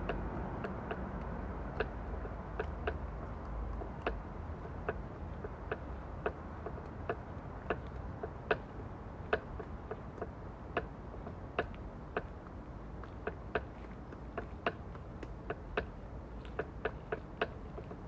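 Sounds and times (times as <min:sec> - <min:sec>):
low city rumble: 0:00.0 - 0:18.0.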